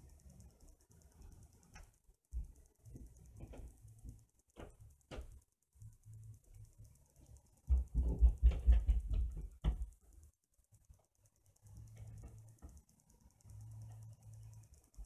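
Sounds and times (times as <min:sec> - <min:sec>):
faint ticks: 0:00.0 - 0:15.0
low hum: 0:00.0 - 0:15.0.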